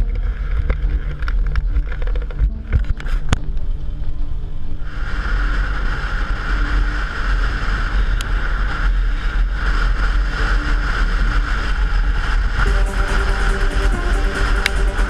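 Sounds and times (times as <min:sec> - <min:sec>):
motorcycle engine drone: 0:00.0 - 0:15.0
wind rushing on microphone: 0:00.0 - 0:15.0.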